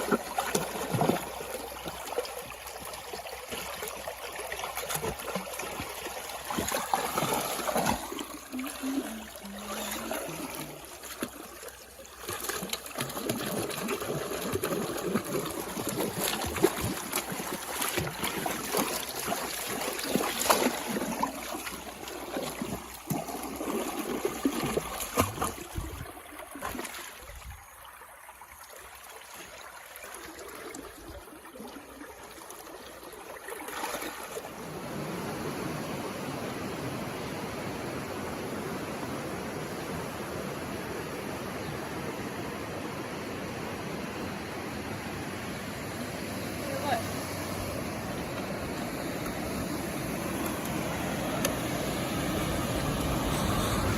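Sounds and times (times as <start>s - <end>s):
stream water flowing: 0.0s - 53.9s.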